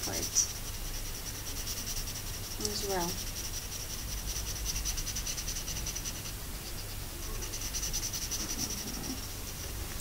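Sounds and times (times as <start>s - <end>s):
marker scratching on paper: 0.0s - 9.8s.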